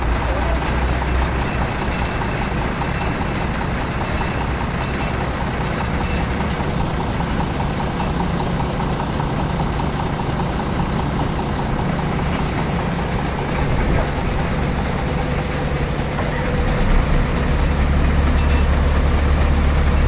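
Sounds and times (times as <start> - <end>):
combine harvester engine drone: 0.0 - 20.0
machinery hissing: 0.0 - 20.0.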